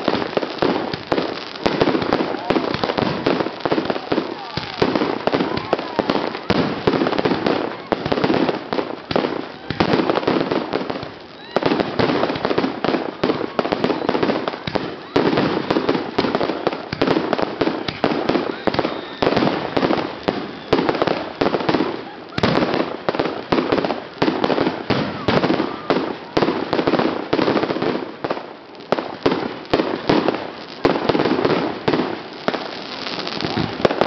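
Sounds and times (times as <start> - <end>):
fireworks launching and crackling: 0.0 - 34.0.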